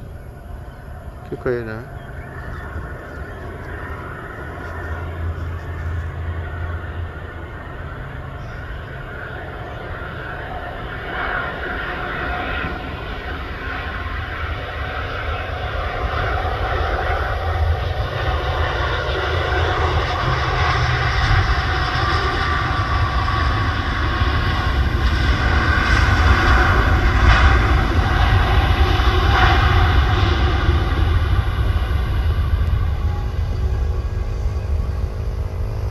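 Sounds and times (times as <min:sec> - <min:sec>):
jet engine roar with whine: 0:00.0 - 0:35.9.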